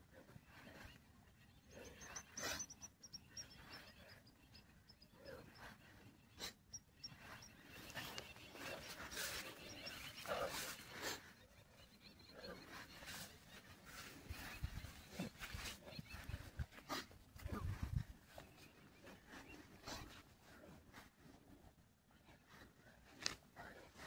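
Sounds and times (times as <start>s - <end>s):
person breathing with effort: 0.0s - 24.0s.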